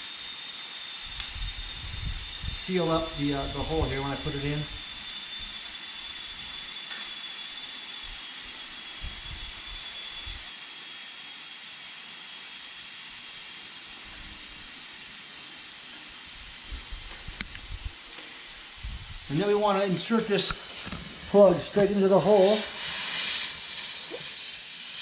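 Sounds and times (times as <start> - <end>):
air hissing from tire: 0.0 - 10.5, 13.4 - 25.0.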